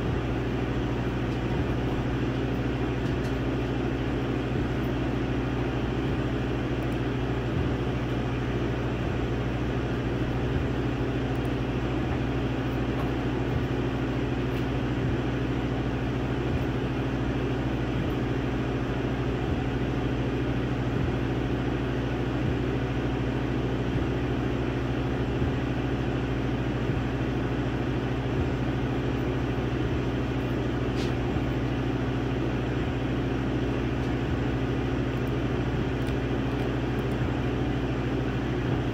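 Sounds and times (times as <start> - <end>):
machine hum and whir: 0.0 - 38.9.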